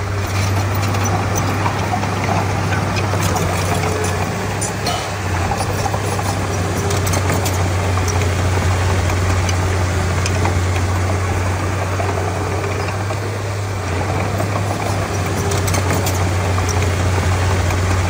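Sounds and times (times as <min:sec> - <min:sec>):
bulldozer diesel engine humming: 0:00.0 - 0:18.0.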